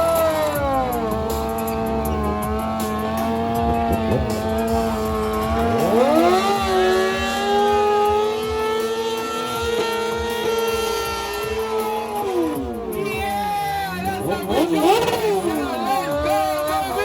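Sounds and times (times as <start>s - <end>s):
car engines revving high: 0.0s - 17.0s.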